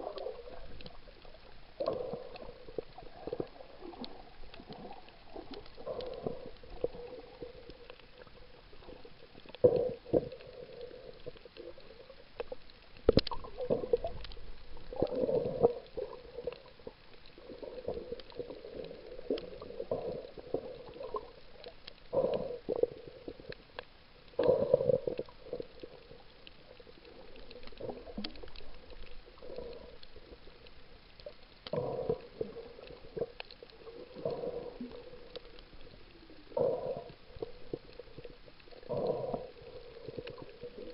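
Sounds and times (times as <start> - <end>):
underwater gurgling water: 0.0 - 40.9
faint clicks: 0.1 - 40.9.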